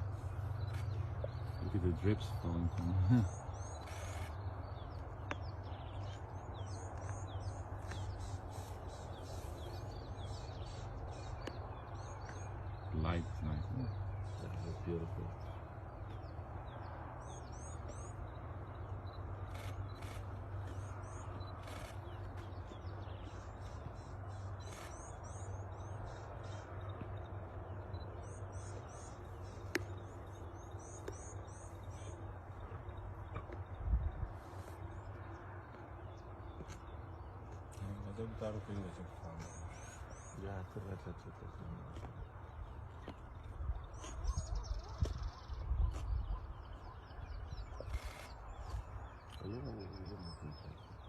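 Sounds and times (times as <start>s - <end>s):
steady low rumble: 0.0s - 50.6s
bird chirping: 0.0s - 51.0s
steady low hum: 0.0s - 51.0s.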